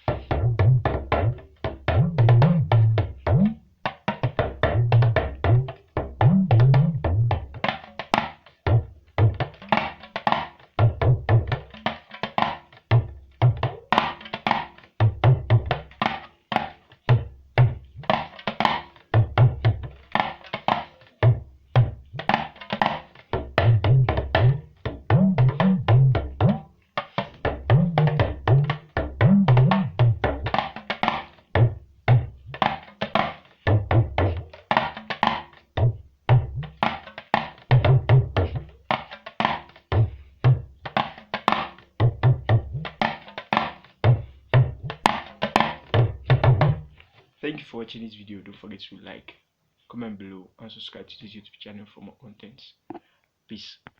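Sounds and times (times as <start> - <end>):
talking drum rhythm: 0.0 - 48.0.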